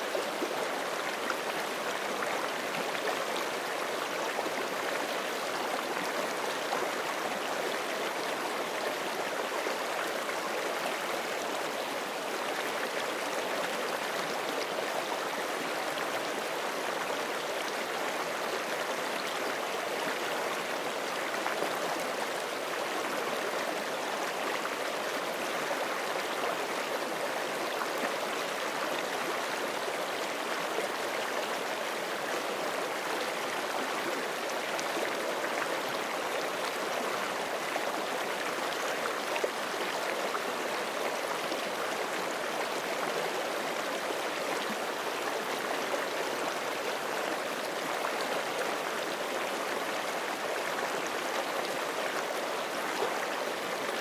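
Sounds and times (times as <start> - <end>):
creek flowing over rocks: 0.0 - 54.0.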